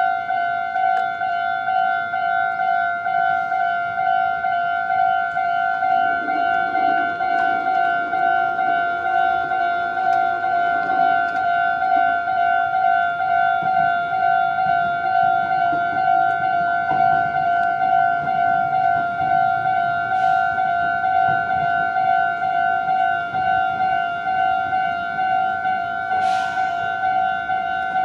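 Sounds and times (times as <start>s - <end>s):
level crossing bell dinging: 0.0s - 28.0s.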